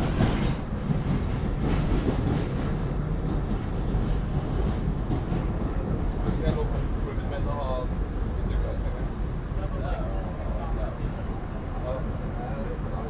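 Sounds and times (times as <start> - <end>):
subway car rumbling on track: 0.0 - 13.0.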